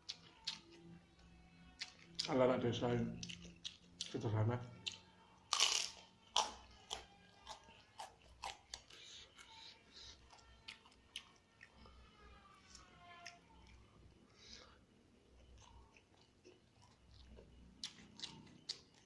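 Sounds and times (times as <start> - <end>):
person chewing crunchy food: 0.0 - 2.4, 3.0 - 12.0, 12.7 - 19.0.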